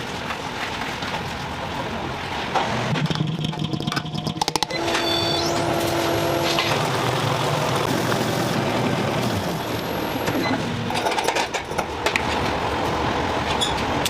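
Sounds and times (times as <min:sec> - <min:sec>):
factory machinery clattering: 0:02.4 - 0:14.0.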